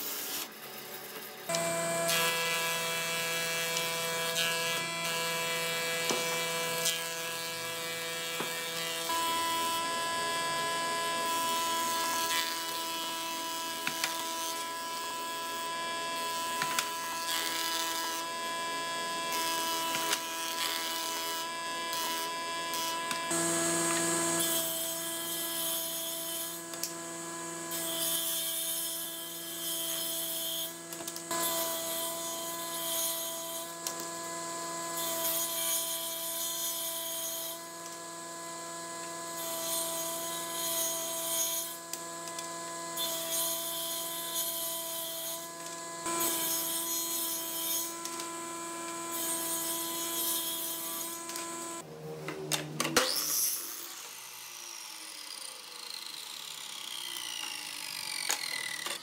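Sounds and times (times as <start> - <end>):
jointer-planer shaving a board: 0.0 - 51.9
bandsaw cutting a board: 0.0 - 59.0.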